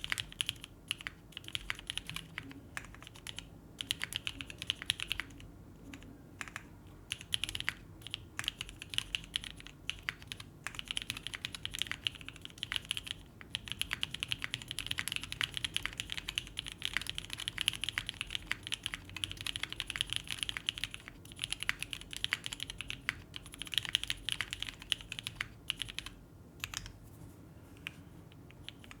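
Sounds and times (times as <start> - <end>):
mechanical keyboard typing: 0.0 - 26.9, 27.8 - 29.0.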